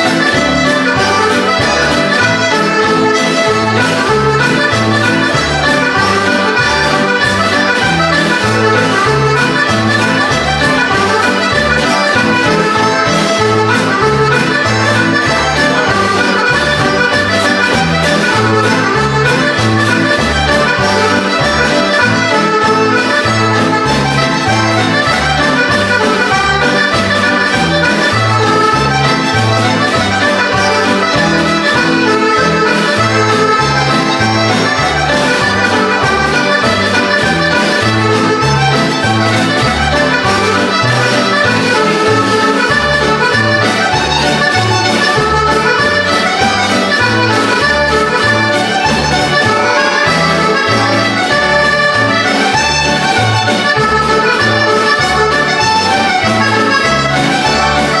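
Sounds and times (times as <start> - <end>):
button accordion playing a march: 0.0 - 58.0.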